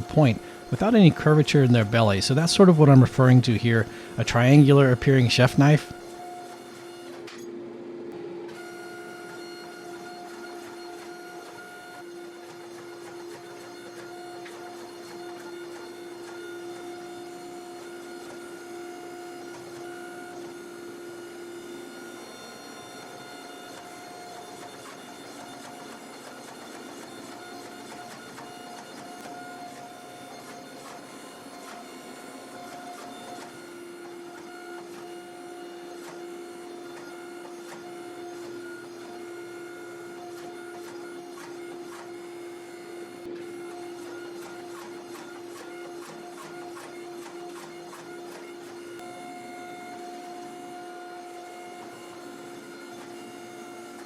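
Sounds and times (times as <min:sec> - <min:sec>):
forging press hum with whine: 0:00.0 - 0:54.0.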